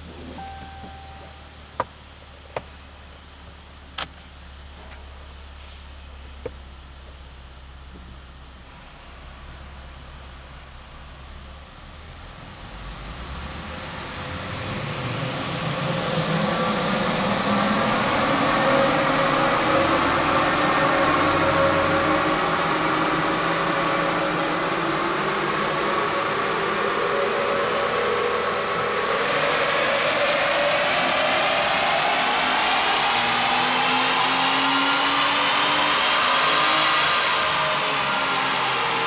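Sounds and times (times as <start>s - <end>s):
car engine revving on dyno: 7.5s - 39.0s.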